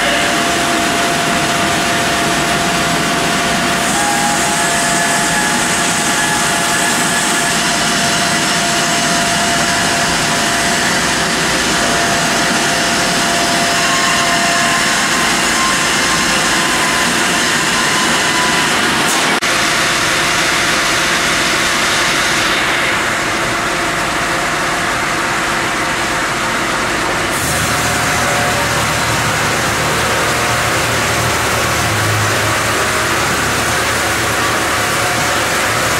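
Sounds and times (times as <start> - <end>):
sawmill machinery hissing: 0.0 - 35.9.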